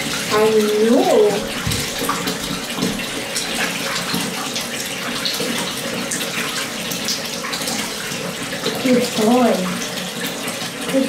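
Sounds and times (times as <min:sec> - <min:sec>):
small water splashes: 0:00.0 - 0:11.0
tap water running into bathtub: 0:00.0 - 0:11.0.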